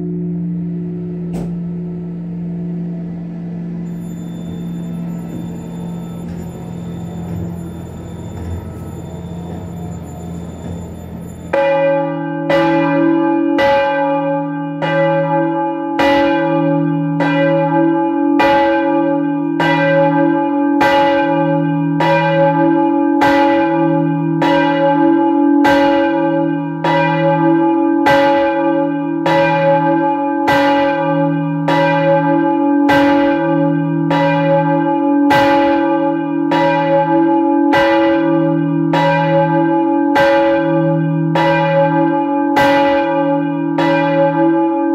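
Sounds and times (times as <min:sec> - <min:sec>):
church bell ringing: 0:00.0 - 0:44.9.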